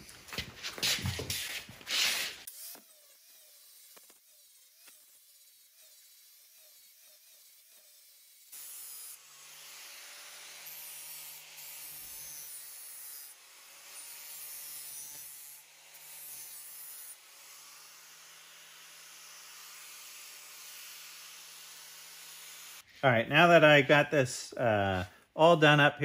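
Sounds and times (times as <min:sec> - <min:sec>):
angle grinder grinding steel: 0:00.8 - 0:22.9.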